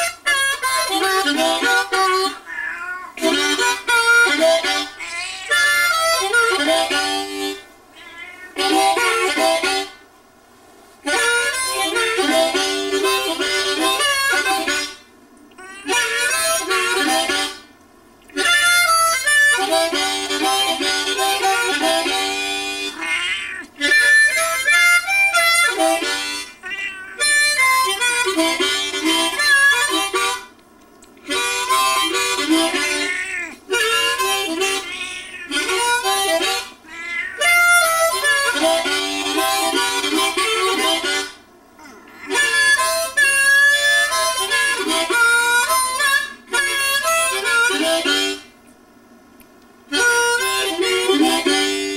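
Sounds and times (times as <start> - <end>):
harmonica playing: 0.0 - 10.1, 11.0 - 17.7, 18.3 - 30.6, 31.2 - 48.6, 49.9 - 51.9.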